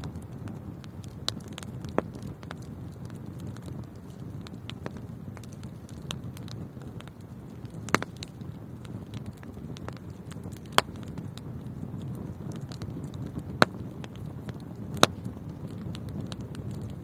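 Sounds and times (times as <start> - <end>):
fire crackling: 0.0 - 17.0
fire flames rushing: 0.0 - 17.0
sharp pops of burning wood: 0.0 - 17.0.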